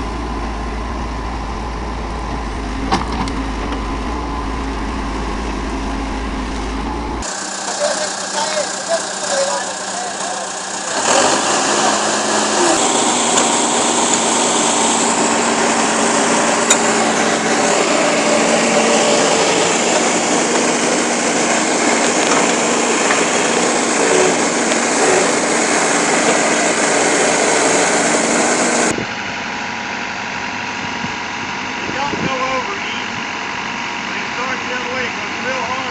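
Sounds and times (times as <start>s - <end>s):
dense mechanical noise: 0.0s - 35.9s
engine running loudly: 0.0s - 35.9s.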